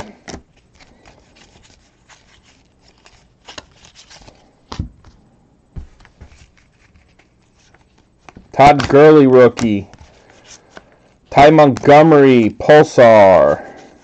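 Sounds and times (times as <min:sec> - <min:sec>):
trading cards rustling on table: 0:00.0 - 0:14.0.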